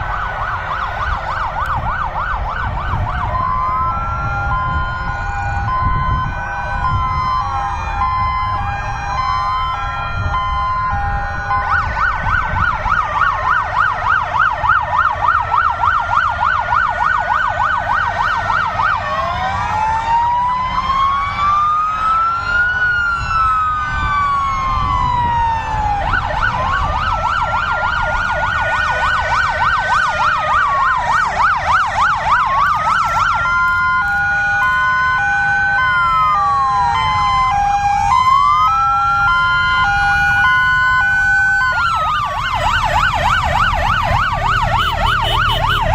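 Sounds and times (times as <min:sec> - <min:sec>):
fire engine sirens: 0:00.0 - 0:45.9
two-tone siren: 0:00.0 - 0:45.9.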